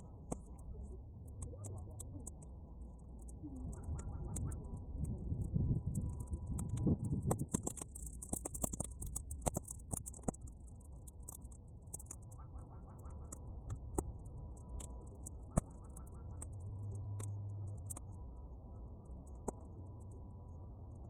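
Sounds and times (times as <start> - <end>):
low rumble of wind: 0.0 - 21.0
bonfire crackling and popping: 0.2 - 18.2.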